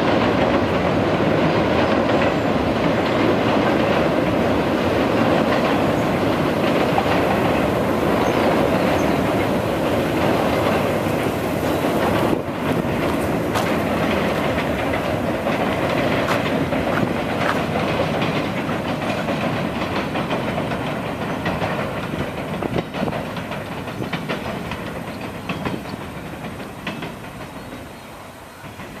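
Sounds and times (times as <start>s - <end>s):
freight train rumbling on bridge: 0.0s - 29.0s
train wheels clattering: 0.0s - 29.0s.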